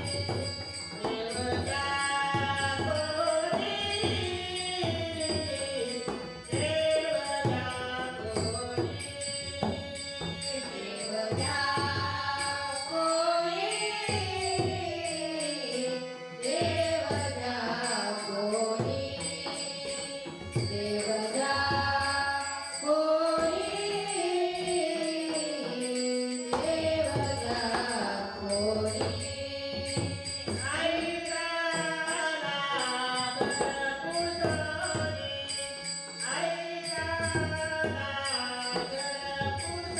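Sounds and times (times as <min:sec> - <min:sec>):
jingling percussion: 0:00.0 - 0:39.9
woman singing: 0:00.0 - 0:39.9.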